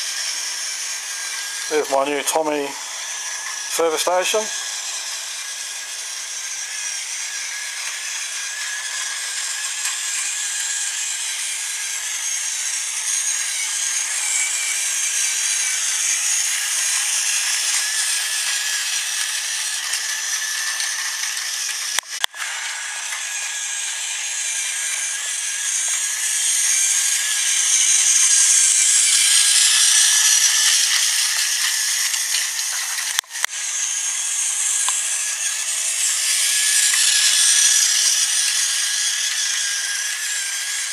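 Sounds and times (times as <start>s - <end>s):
toy train motor whirring: 0.0s - 40.9s.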